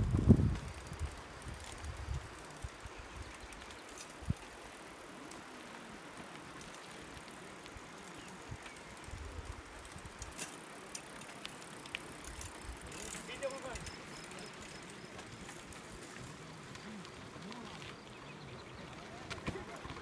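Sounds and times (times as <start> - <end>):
bicycle clicks and rattles: 0.0 - 20.0
bicycle tyres hissing: 0.0 - 20.0.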